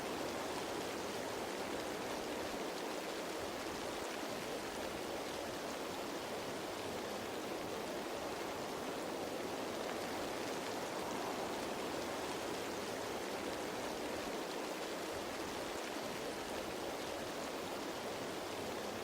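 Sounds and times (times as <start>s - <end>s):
rain falling on leaves: 0.0s - 19.0s.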